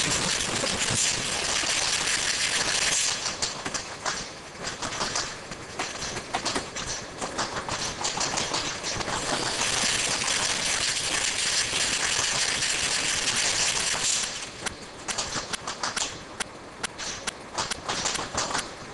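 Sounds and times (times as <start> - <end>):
loud steady hiss: 0.0 - 4.6, 8.2 - 18.9.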